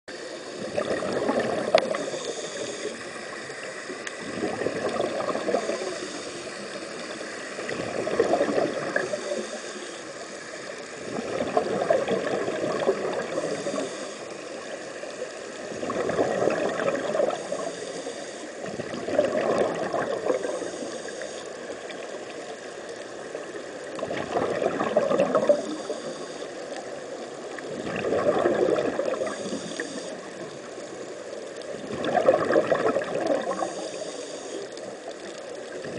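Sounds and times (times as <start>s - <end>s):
steady hiss: 0.1s - 16.0s, 16.6s - 19.0s, 20.1s - 24.0s, 25.4s - 27.8s, 29.0s - 31.9s, 33.2s - 35.9s
underwater air bubbling: 0.1s - 35.9s.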